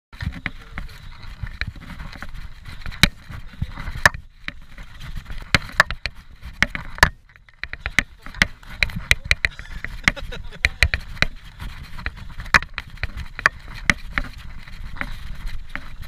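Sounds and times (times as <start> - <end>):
bike clacking and rattling: 0.2 - 16.0
tyres rumbling over dirt and leaves: 0.2 - 16.0.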